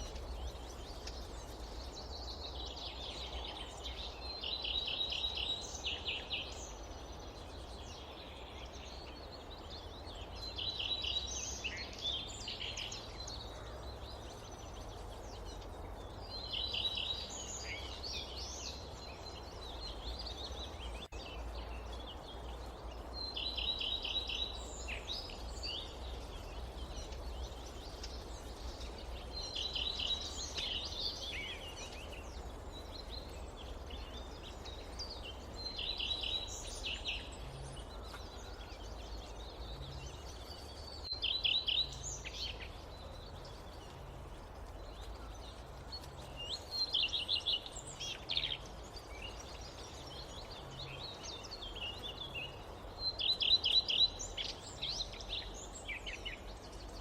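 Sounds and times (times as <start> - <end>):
forest ambience hiss: 0.0 - 57.0.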